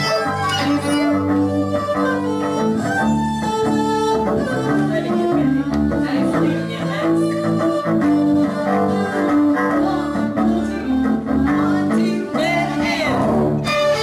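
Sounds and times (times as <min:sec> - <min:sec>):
cellos bowing low notes: 0:00.0 - 0:14.0
violins playing: 0:00.0 - 0:14.0.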